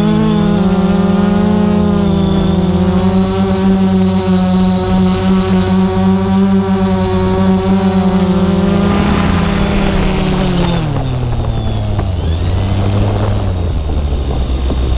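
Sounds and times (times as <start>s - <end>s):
drone propellers buzzing: 0.0s - 14.9s.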